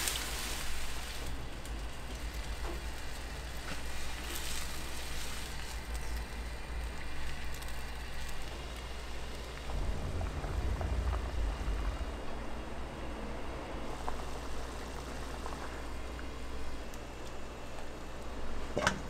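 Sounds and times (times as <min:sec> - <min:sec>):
food sizzling and crackling: 0:00.0 - 0:18.5
steady low hum: 0:00.0 - 0:19.0.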